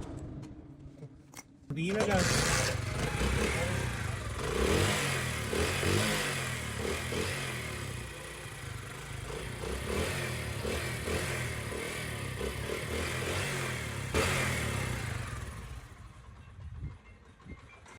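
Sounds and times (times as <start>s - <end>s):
motorcycle engine running: 1.9s - 17.9s.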